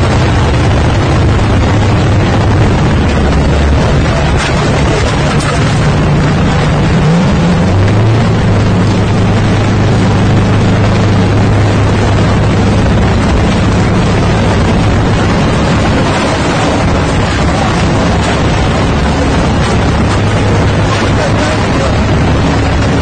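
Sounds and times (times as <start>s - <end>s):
heavy equipment engine rumble: 0.0s - 23.0s
low hum: 0.0s - 23.0s
wind buffeting microphone: 0.0s - 23.0s.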